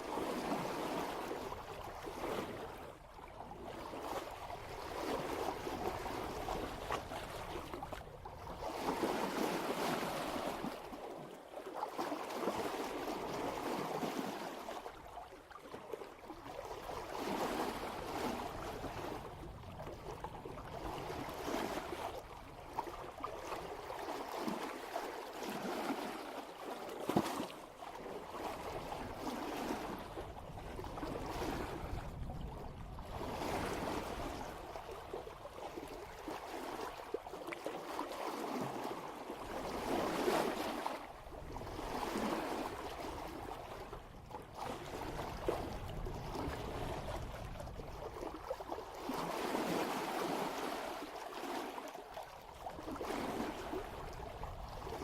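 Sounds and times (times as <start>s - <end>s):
water splashing along boat bow: 0.0s - 55.0s.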